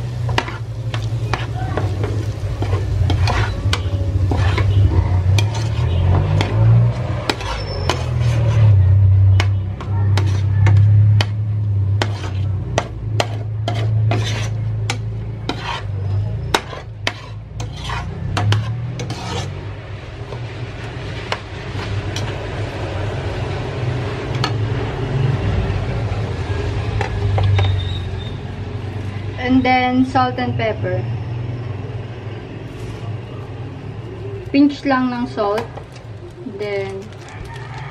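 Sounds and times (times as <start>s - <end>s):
vegetables sauteing: 0.0s - 37.9s.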